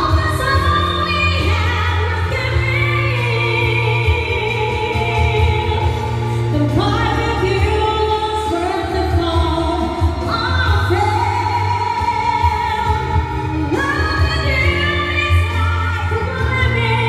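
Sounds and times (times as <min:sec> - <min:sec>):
backing music with bass line: 0:00.0 - 0:17.0
woman singing through loudspeaker: 0:00.0 - 0:17.0.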